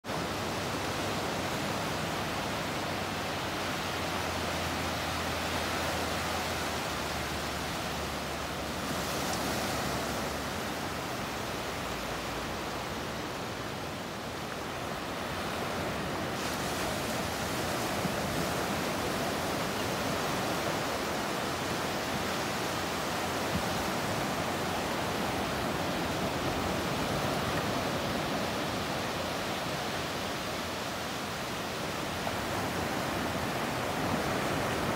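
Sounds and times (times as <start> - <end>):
waves washing on sand beach: 0.0 - 34.9.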